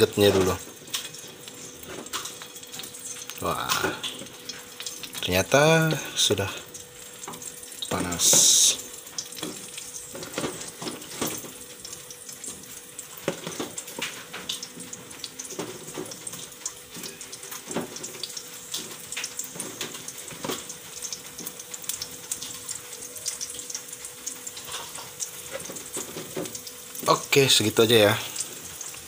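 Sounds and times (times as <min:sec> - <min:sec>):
food frying in hot oil: 0:00.0 - 0:29.0.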